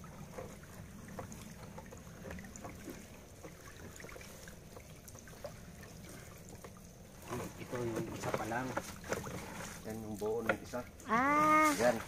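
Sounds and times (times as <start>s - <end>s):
light splashes and ticks: 0.0s - 11.2s
water trickling and dripping: 0.0s - 12.0s.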